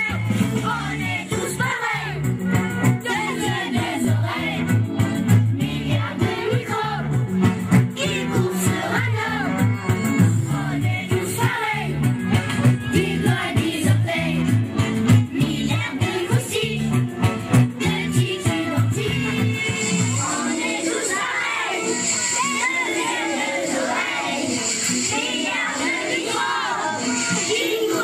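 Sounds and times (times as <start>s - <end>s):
music with steady bass line: 0.0s - 28.0s
girls singing into a microphone: 0.1s - 2.2s, 3.1s - 7.1s, 8.0s - 9.6s, 10.3s - 12.0s, 12.9s - 14.5s, 15.3s - 16.9s, 17.8s - 28.0s.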